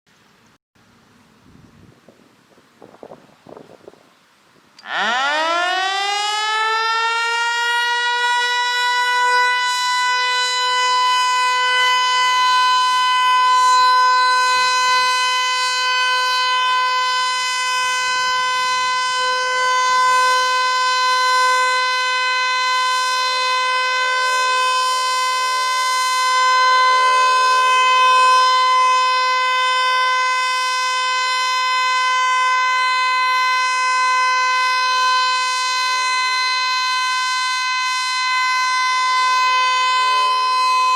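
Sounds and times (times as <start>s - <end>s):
loud warning siren steady tone: 4.8s - 40.9s.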